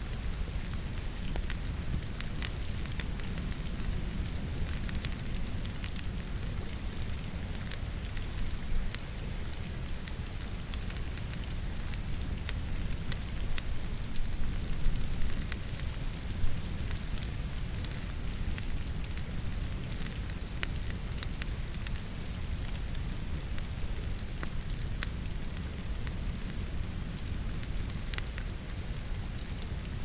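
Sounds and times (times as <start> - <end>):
fire low rumble: 0.0 - 30.0
firewood crackling and popping: 0.0 - 30.0
steady rain: 0.0 - 30.0.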